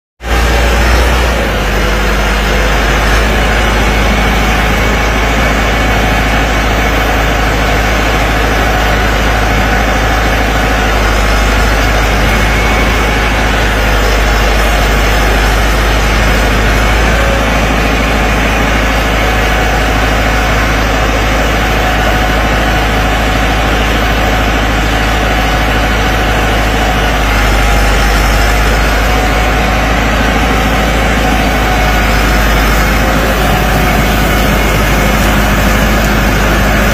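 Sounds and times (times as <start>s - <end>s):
tractor diesel engine under load: 0.2s - 36.9s.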